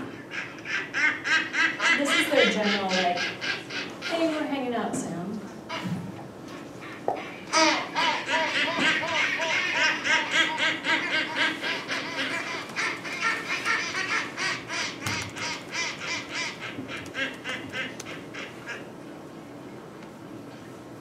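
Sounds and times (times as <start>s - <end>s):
skuas calling over loudspeakers: 0.0s - 4.5s, 6.5s - 19.0s.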